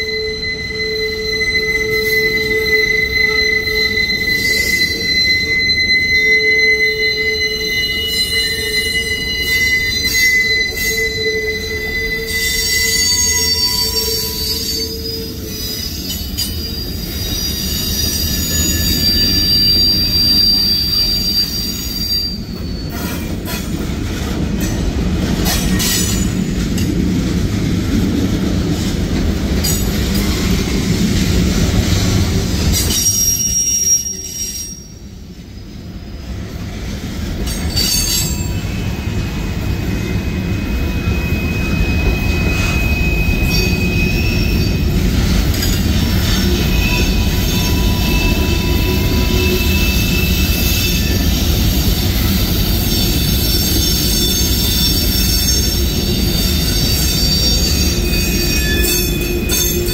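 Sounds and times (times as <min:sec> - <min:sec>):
train wheels squealing: 0:00.0 - 0:27.0, 0:28.1 - 0:59.9
train cars rumbling and clattering: 0:00.0 - 0:59.9.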